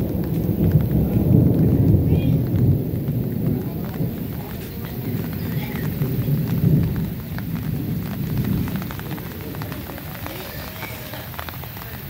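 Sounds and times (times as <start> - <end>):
low rumble: 0.0 - 10.5
rain falling: 0.0 - 12.0
raindrop ticks: 0.0 - 12.0.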